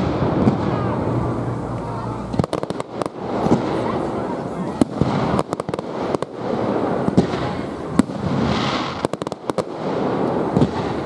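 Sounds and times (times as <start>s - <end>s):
fireworks cracking and popping: 0.0s - 11.0s
fireworks rumbling: 0.0s - 11.0s.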